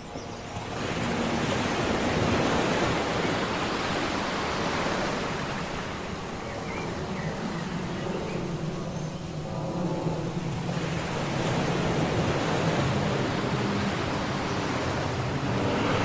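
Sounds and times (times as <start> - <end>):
sea wave rushing: 0.5 - 8.8, 9.7 - 16.0.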